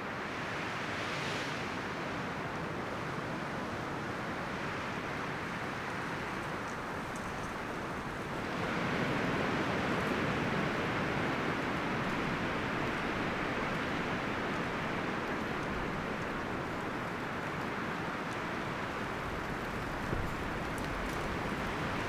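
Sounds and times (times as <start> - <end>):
wind rustling through trees: 0.0 - 22.0.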